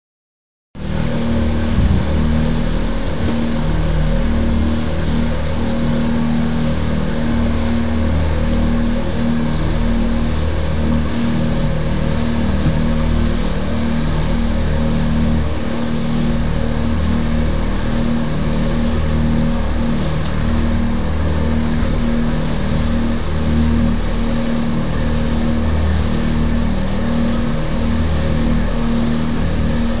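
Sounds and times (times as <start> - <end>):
motor humming steadily: 0.8 - 30.0.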